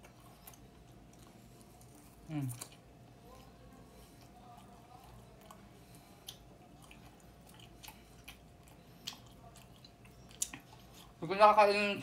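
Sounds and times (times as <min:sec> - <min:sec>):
faint chewing of meat: 0:00.0 - 0:11.3.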